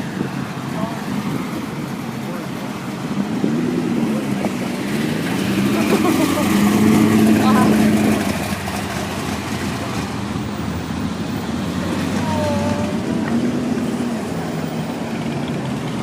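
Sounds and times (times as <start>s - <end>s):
car engines running: 0.0s - 16.0s
outdoor background noise: 0.0s - 16.0s.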